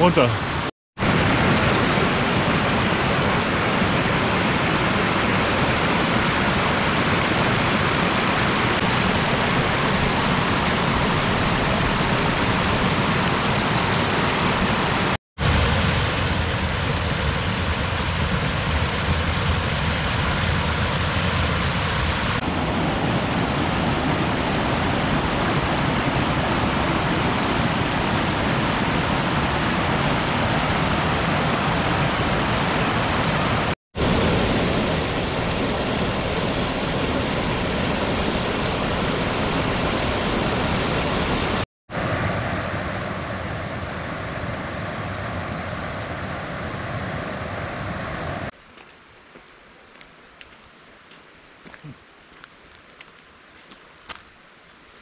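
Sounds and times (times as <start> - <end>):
waterfall rushing: 0.0 - 48.5.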